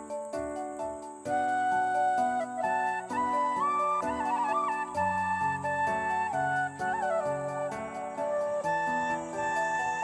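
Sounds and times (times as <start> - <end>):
flute-like melody: 0.8 - 10.0.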